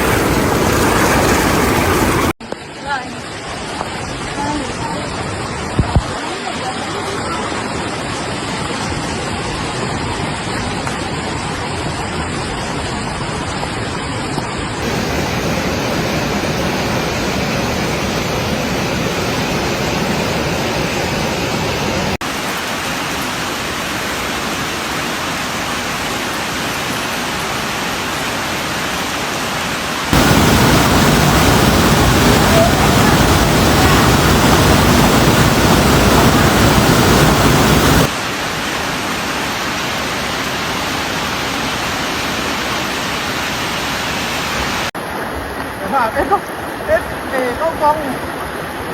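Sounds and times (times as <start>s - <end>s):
floodwater rushing: 0.0s - 48.9s.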